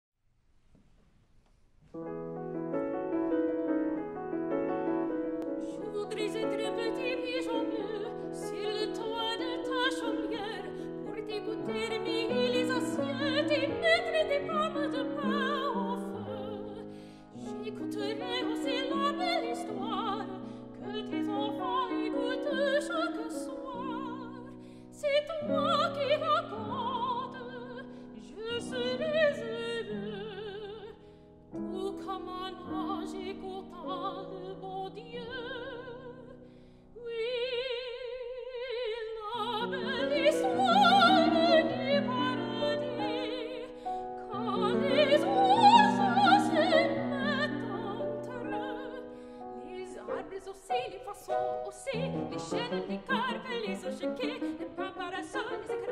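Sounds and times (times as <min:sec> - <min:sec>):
grand piano: 0:01.7 - 0:55.9
soprano singing with vibrato: 0:05.5 - 0:31.0, 0:31.6 - 0:36.4, 0:37.0 - 0:55.9.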